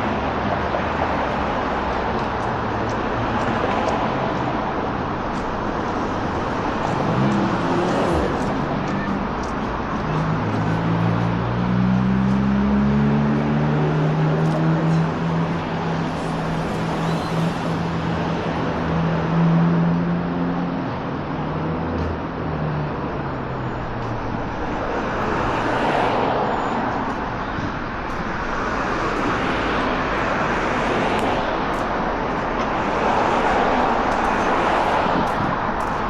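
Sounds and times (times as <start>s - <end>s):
low traffic hum: 0.0s - 36.0s
vehicles passing: 0.0s - 36.0s.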